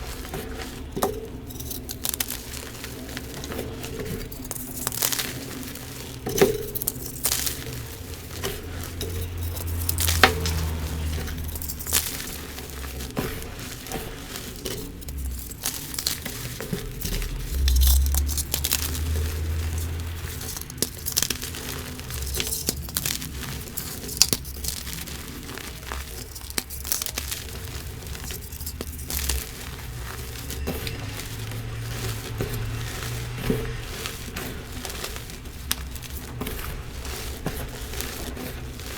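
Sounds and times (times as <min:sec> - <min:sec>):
chalk blocks crunching by hand: 0:00.0 - 0:38.9.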